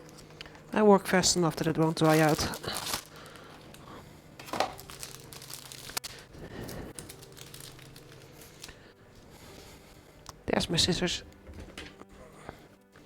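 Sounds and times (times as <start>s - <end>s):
faint steady hum: 0.0s - 10.6s
pastry and wrapping rustling: 0.0s - 11.0s.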